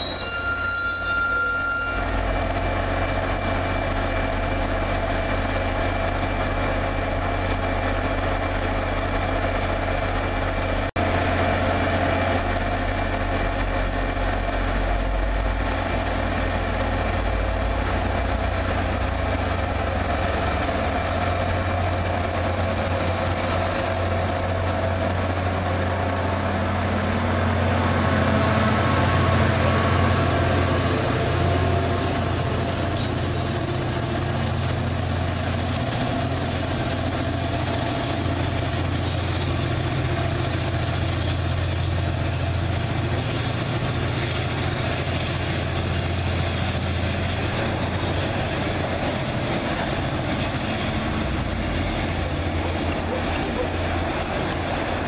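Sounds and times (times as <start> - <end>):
diesel locomotive engine droning: 0.0 - 55.0.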